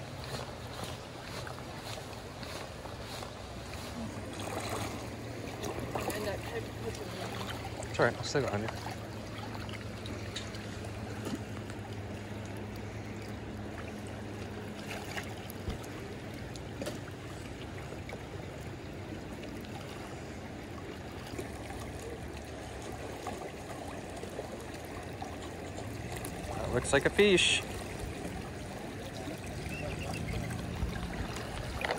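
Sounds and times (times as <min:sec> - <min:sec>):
low steady hum: 0:00.0 - 0:31.9
river water rushing: 0:00.0 - 0:31.9.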